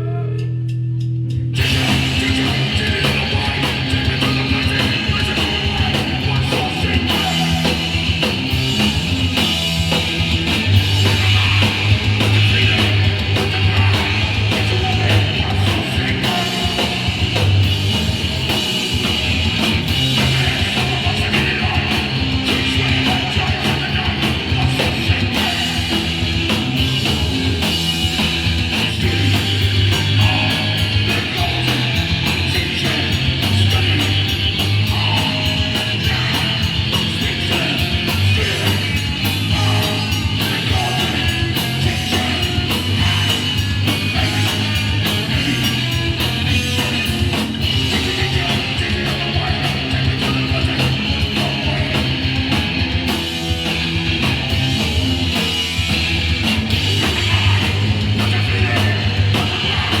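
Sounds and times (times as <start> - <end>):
punk band playing live: 0.0 - 60.0.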